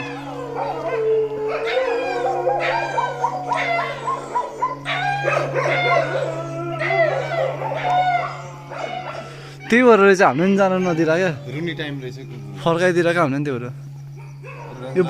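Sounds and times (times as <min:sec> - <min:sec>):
dogs howling and barking: 0:00.0 - 0:12.5, 0:13.9 - 0:15.0
steady low drone: 0:00.0 - 0:15.0.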